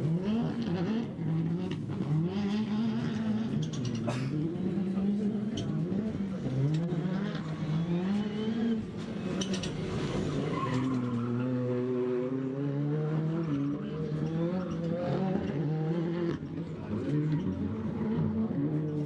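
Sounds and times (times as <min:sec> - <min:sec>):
rally car engine revving hard: 0:00.0 - 0:19.0.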